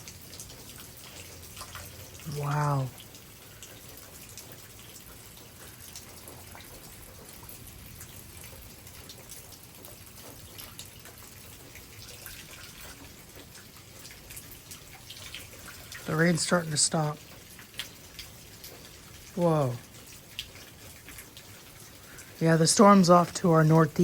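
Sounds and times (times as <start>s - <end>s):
light rain hiss: 0.0s - 24.0s
water drops ticking: 0.0s - 24.0s.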